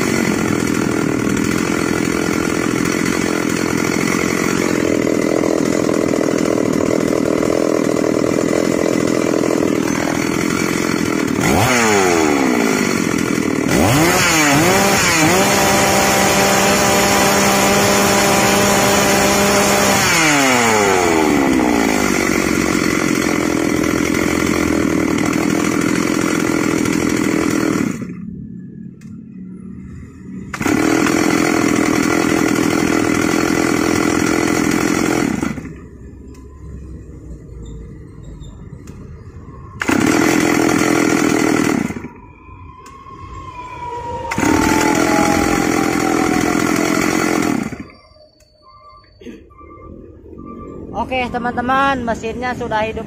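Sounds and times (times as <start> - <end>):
chainsaw idling and revving: 0.0 - 28.3, 30.2 - 36.4, 39.8 - 42.2, 44.3 - 48.0, 50.9 - 53.0.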